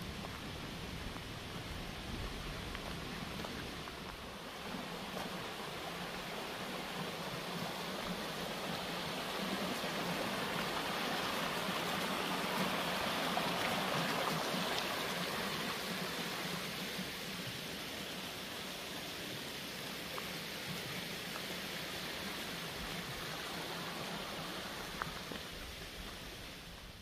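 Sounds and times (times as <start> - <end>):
stream rushing over rocks: 0.0 - 27.0.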